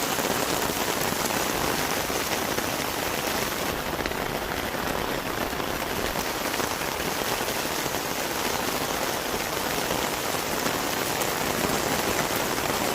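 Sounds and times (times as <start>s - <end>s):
heavy rain on hard surfaces: 0.0s - 12.9s.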